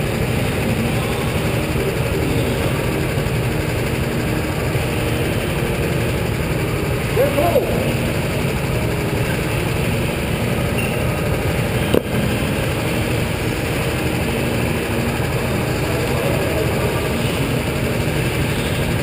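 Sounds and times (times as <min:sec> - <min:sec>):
low rumble and hiss of go-kart track: 0:00.0 - 0:19.0.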